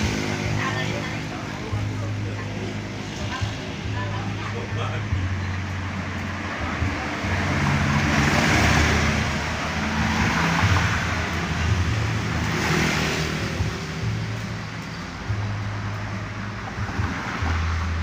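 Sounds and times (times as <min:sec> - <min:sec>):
motor vehicles passing: 0:00.0 - 0:18.0
steady engine hum: 0:00.0 - 0:18.0.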